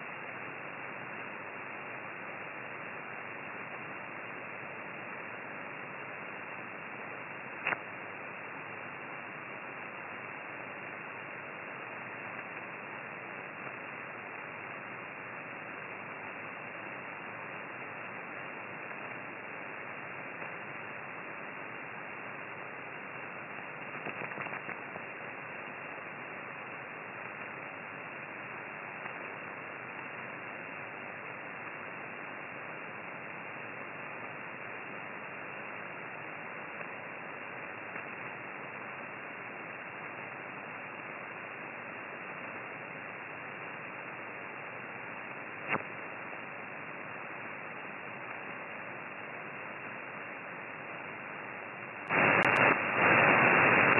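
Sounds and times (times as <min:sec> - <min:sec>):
radio band noise hiss: 0:00.0 - 0:53.9
radio crackles: 0:00.0 - 0:53.9.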